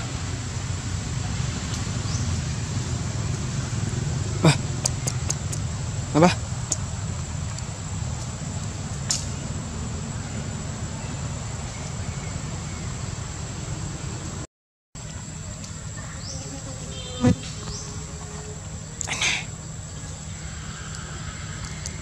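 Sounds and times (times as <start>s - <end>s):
insect drone: 0.0s - 14.4s, 15.0s - 22.0s.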